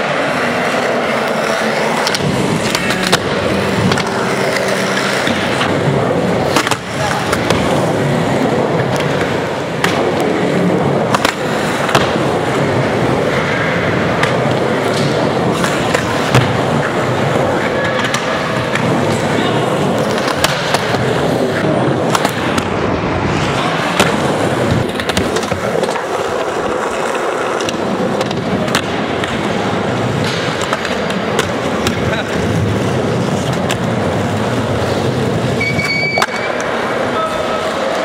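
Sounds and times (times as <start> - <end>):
skateboard wheels rolling on wood: 0.0 - 38.0
skateboard clacking on ramp: 0.2 - 34.2.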